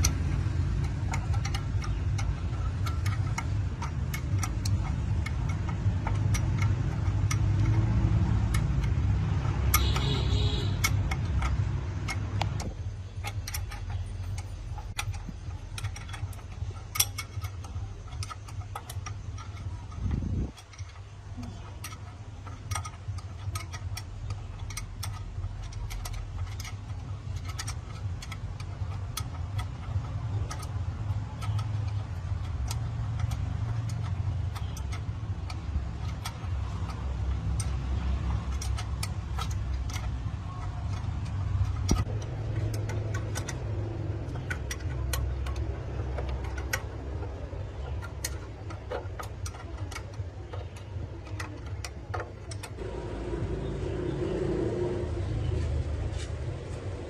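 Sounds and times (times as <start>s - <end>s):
sharp clicks: 0.0s - 57.0s
truck engine running: 0.0s - 57.0s.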